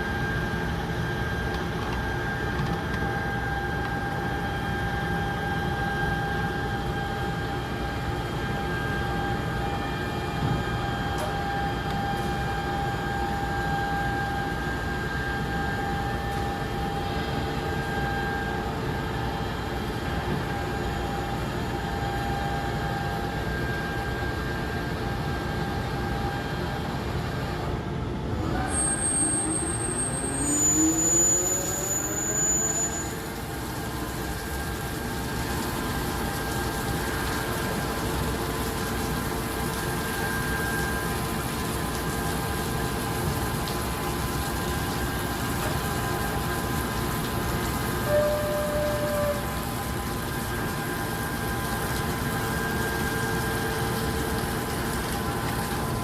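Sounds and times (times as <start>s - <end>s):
lathe running with whine: 0.0s - 56.0s.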